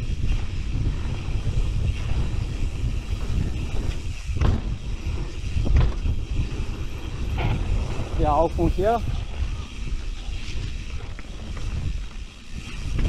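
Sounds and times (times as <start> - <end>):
bike clattering over bumps: 0.0 - 13.0
bike tyres rumbling on dirt: 0.0 - 13.0
wind buffeting microphone: 0.0 - 13.0.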